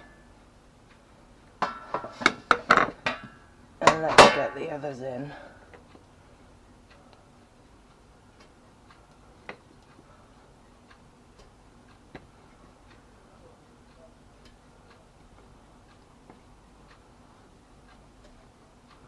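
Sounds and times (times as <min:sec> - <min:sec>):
timer ticking: 0:02.7 - 0:19.0.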